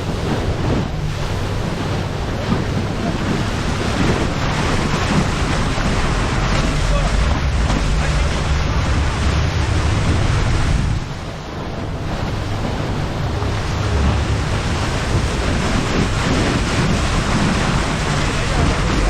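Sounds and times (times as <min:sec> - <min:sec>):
water rushing past motorboat: 0:00.0 - 0:19.0
wind buffeting microphone: 0:00.0 - 0:19.0.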